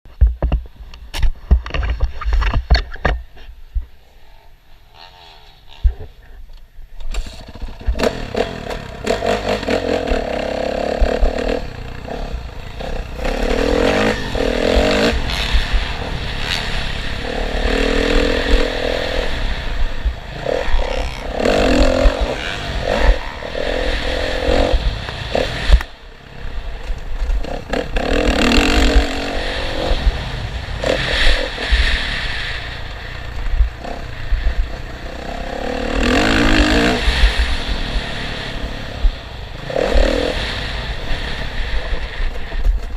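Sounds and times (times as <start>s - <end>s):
dirt bike engines revving: 4.0s - 6.4s, 7.1s - 42.9s.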